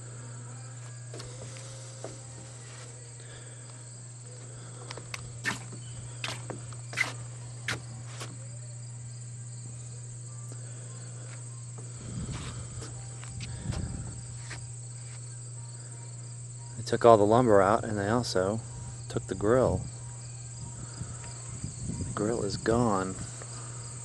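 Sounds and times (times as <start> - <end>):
insects trilling: 0.0 - 24.0
low steady hum: 0.0 - 24.0.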